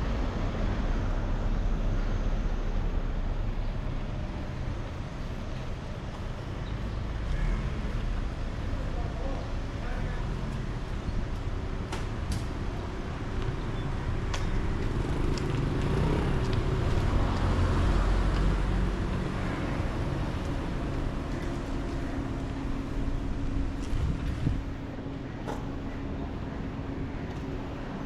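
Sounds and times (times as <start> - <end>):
vehicle rumble: 0.0 - 28.0.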